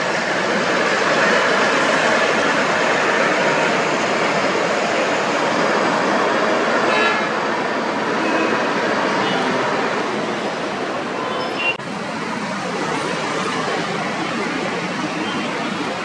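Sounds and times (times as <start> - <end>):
coach engine and tyre noise: 0.0 - 16.0.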